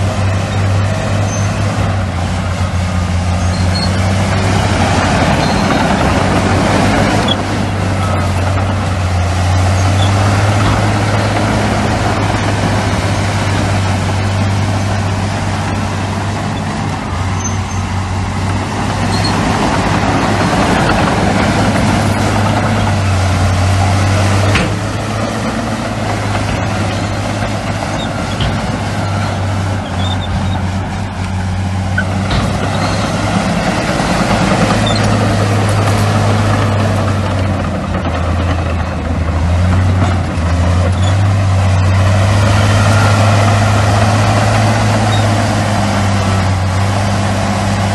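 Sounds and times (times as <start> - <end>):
heavy diesel machinery drone: 0.0 - 47.9.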